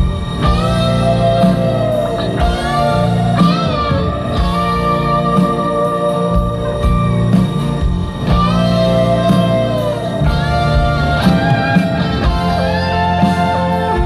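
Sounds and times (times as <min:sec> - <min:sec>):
electric guitar bending notes: 0:00.0 - 0:14.0
live rock band playing: 0:00.0 - 0:14.0.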